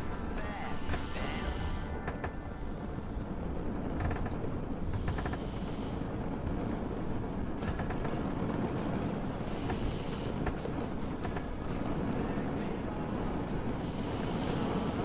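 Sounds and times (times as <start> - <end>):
low rumble: 0.0 - 15.0
steady rain falling: 0.0 - 15.0.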